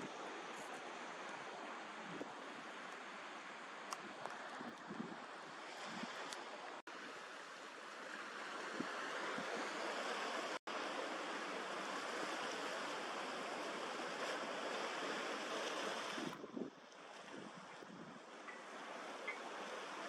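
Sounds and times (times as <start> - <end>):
choppy sea water: 0.0 - 20.0.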